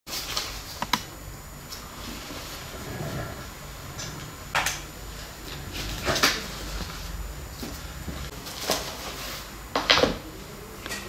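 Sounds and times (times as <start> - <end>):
faint room hum: 0.1 - 11.0.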